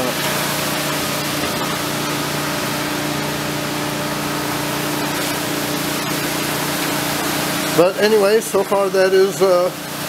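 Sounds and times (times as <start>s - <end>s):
generator humming: 0.0s - 10.0s.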